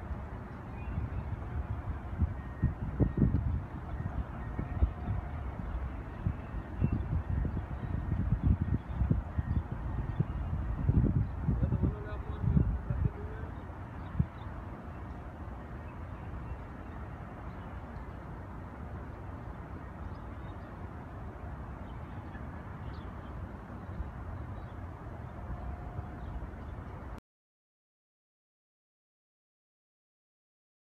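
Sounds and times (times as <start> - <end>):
distant city traffic rumble: 0.0 - 27.2.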